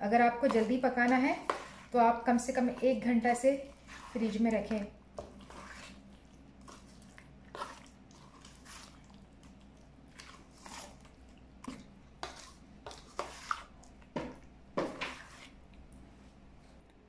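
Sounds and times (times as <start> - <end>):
spoon squelching through marinade: 0.0 - 16.9.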